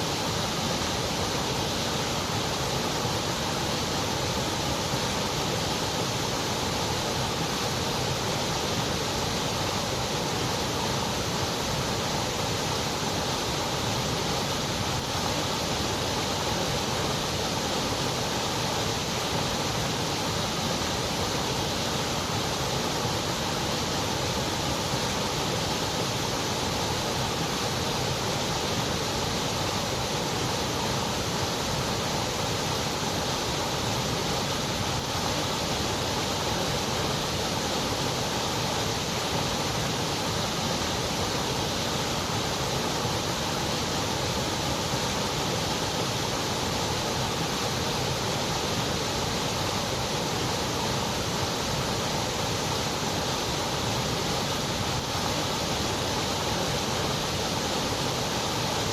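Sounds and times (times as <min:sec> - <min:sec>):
white noise: 0:00.0 - 0:58.9.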